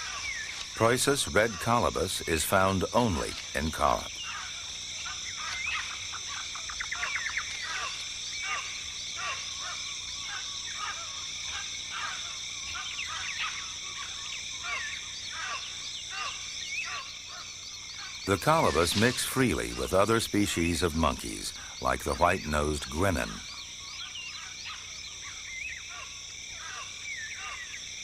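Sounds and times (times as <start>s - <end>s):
high insect drone: 0.0s - 28.0s.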